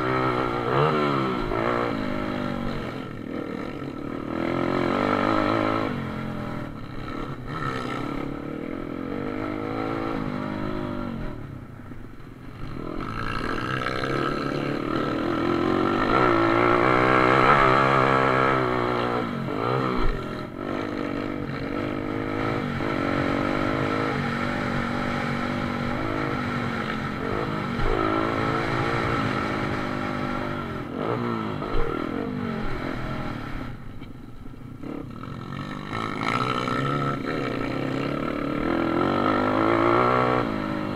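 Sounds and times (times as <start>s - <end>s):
motorbike engine revving: 0.0s - 11.5s, 12.5s - 33.9s, 34.8s - 40.9s.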